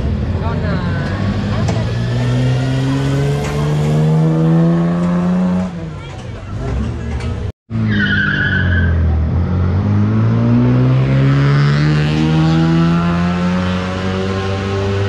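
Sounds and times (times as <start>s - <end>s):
racing car engine accelerating: 0.8s - 5.8s, 7.7s - 15.0s.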